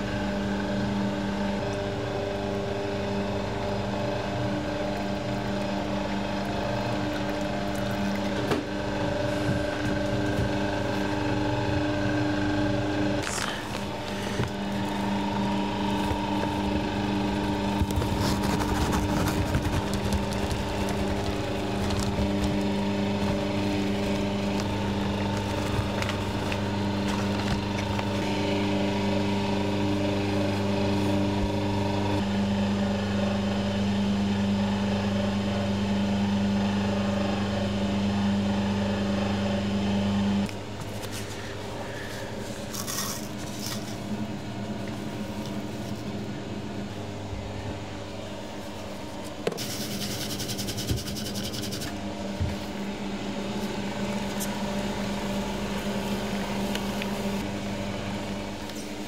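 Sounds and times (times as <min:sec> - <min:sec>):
dough mixer motor hum: 0:00.0 - 0:59.0.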